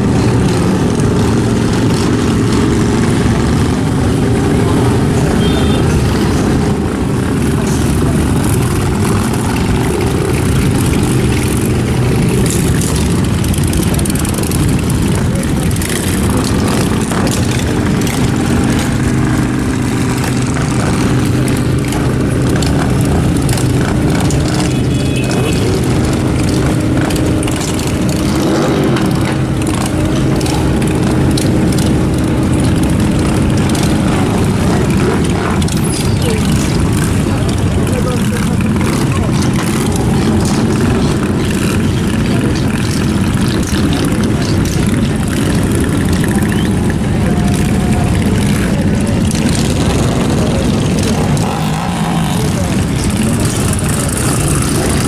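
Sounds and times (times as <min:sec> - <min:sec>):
engines humming steadily: 0:00.0 - 0:55.0.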